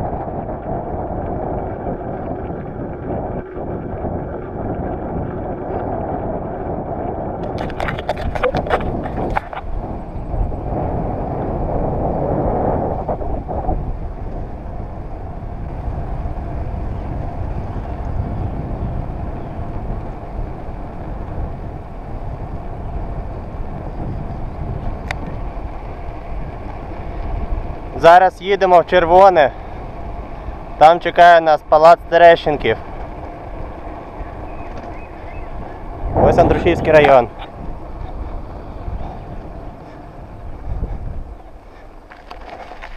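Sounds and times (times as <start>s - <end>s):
bicycle road rumble: 0.0s - 42.9s
wind rush on microphone: 0.0s - 42.9s.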